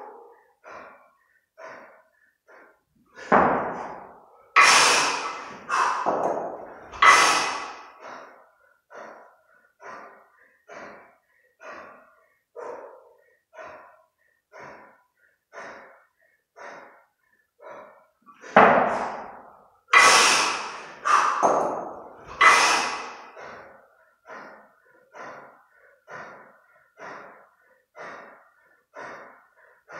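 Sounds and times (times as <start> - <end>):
man breathing hard: 0.0 - 29.9.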